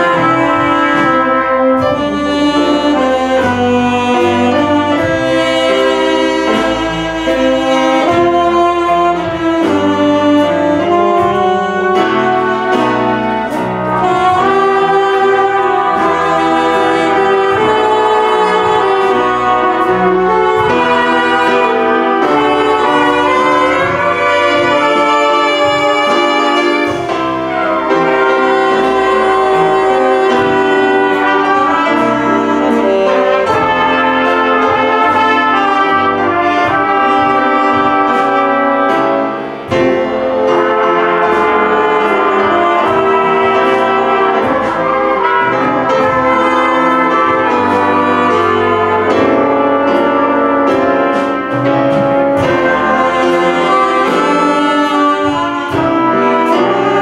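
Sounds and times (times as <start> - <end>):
brass ensemble playing a melody: 0.0 - 57.0
full band accompaniment: 0.0 - 57.0.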